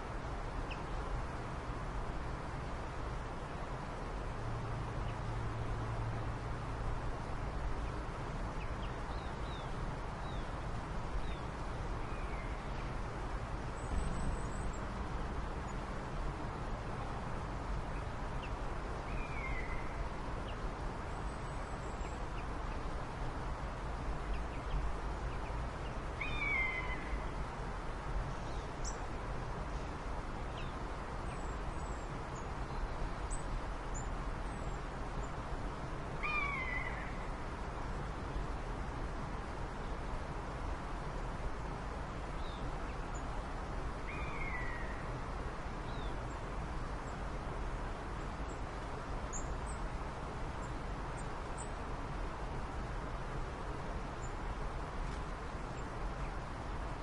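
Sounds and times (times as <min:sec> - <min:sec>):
background hiss and low rumble: 0:00.0 - 0:57.0.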